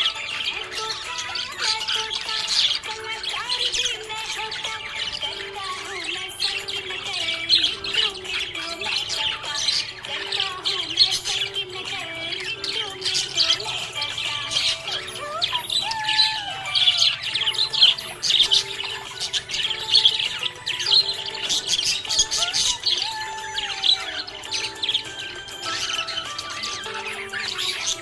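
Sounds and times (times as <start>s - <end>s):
budgerigars chirping and squawking: 0.0s - 28.0s.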